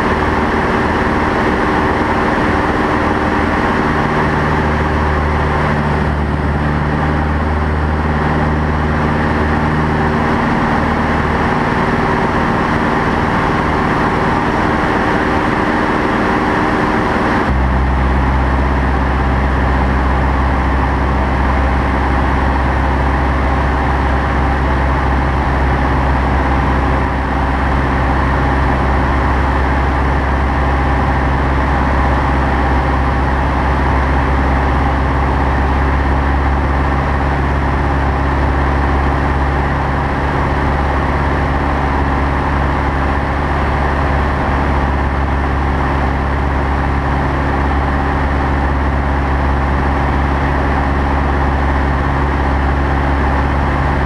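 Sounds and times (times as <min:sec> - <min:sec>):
propeller airplane engine droning: 0:00.0 - 0:54.0
rushing air noise: 0:00.0 - 0:54.0.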